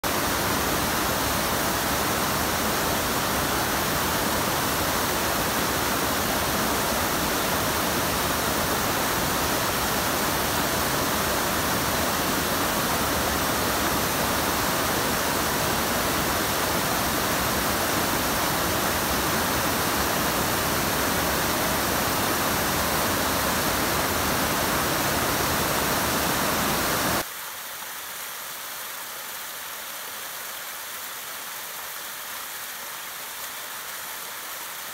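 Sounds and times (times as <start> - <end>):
waterfall rushing water: 0.0 - 34.9.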